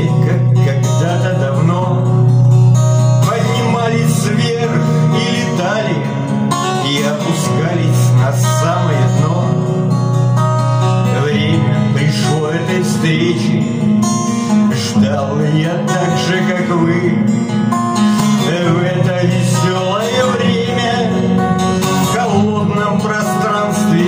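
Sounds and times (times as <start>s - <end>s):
acoustic guitar accompaniment: 0.0s - 24.0s.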